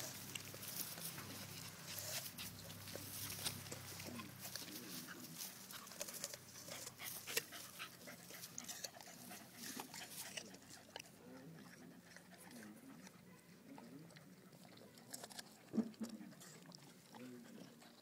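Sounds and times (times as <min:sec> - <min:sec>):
dog teeth crunching apple: 0:00.0 - 0:18.0.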